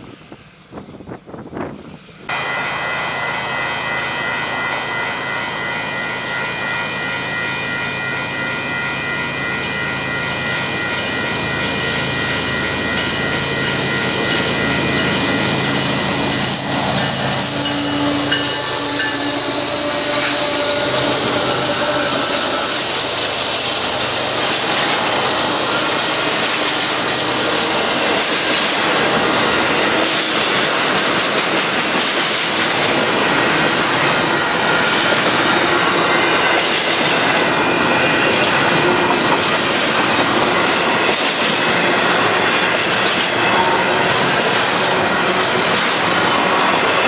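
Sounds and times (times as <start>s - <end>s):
steel wheels running on rails: 0.0s - 47.0s.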